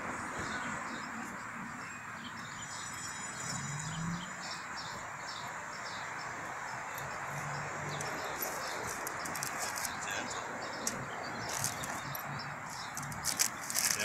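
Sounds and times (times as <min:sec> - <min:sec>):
small birds chirping: 0:00.4 - 0:14.0.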